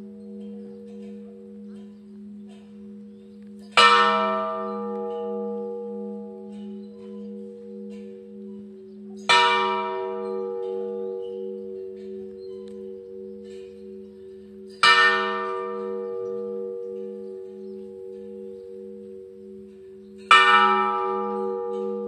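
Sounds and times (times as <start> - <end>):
large church bell tolling: 0.0 - 22.0.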